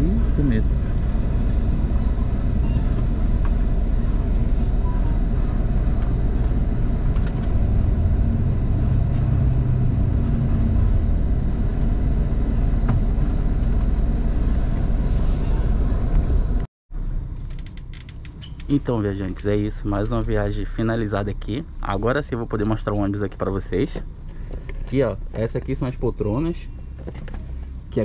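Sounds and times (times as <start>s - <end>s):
diesel bus engine idling: 0.0s - 28.0s.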